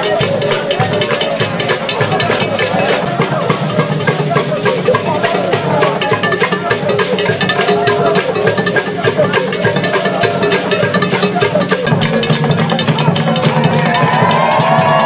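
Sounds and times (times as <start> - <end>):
fast drum and percussion beat: 0.0 - 15.0
voices singing: 0.0 - 15.0.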